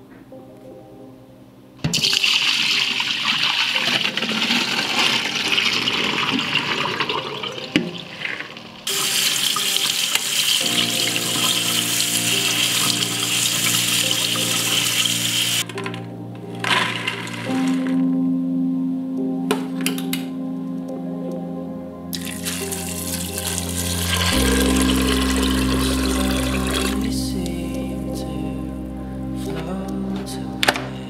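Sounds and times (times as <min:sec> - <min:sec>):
soft background music: 0:00.0 - 0:31.0.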